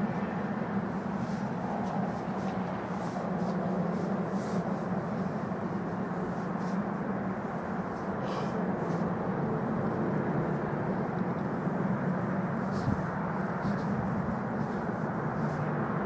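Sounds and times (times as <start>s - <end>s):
distant train rumbling: 0.0s - 16.0s.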